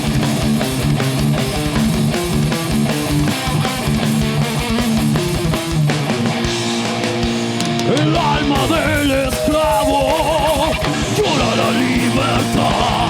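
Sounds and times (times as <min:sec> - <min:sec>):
heavy metal band instrumental: 0:00.0 - 0:13.0
rapid kick drum beat: 0:00.0 - 0:13.0.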